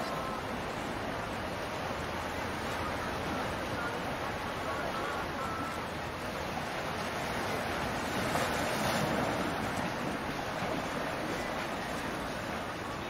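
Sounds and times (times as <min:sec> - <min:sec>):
water rushing: 0:00.0 - 0:13.0
wind: 0:00.0 - 0:13.0.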